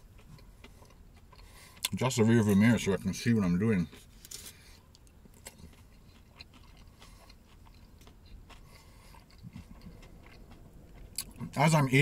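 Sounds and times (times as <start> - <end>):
mouth clicks and crunches: 0.0 - 2.6, 3.9 - 11.9
faint chewing: 0.0 - 3.1, 3.7 - 11.9.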